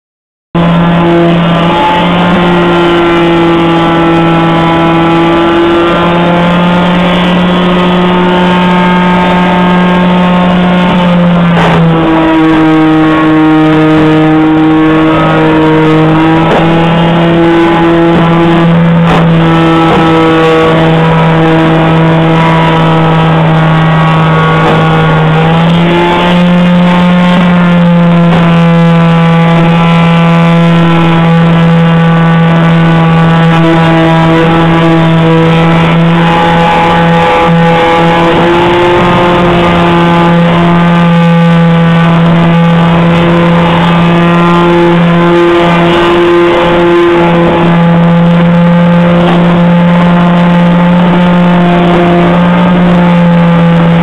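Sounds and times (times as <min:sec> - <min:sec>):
orbital sander humming: 0:00.6 - 0:54.0.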